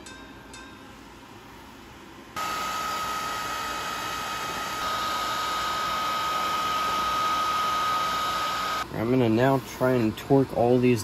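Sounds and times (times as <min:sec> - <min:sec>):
blower whirring with high whine: 0:01.2 - 0:11.0.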